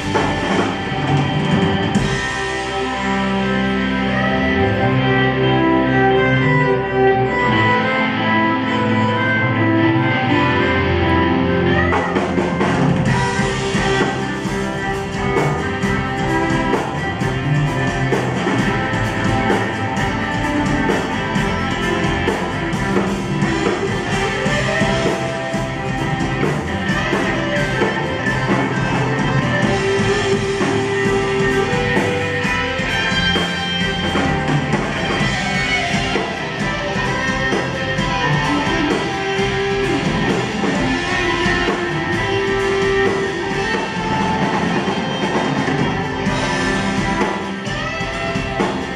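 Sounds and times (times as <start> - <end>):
rock band playing: 0.0 - 48.9
strummed guitars: 0.0 - 48.9.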